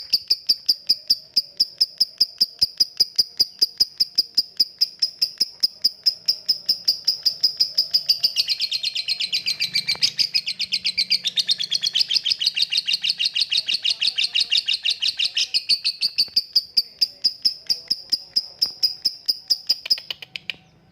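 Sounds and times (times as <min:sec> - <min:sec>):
songbird chirping: 0:00.0 - 0:20.9.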